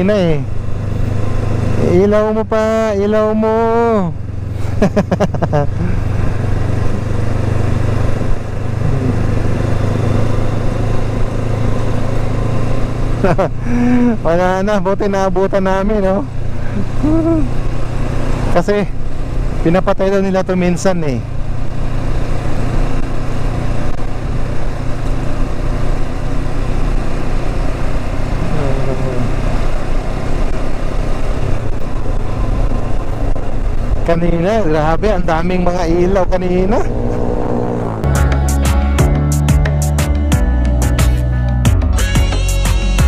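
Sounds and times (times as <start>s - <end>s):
wind and road rush: 0.0s - 41.6s
motorcycle engine running: 0.0s - 43.0s.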